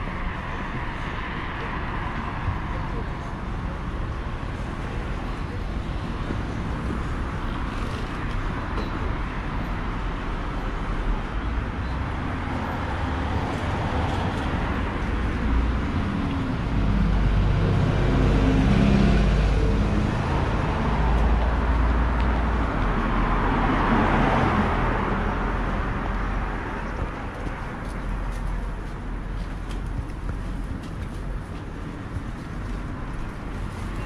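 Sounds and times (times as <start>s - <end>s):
road traffic rumble: 0.0s - 34.0s
vehicles passing close by: 0.0s - 34.0s.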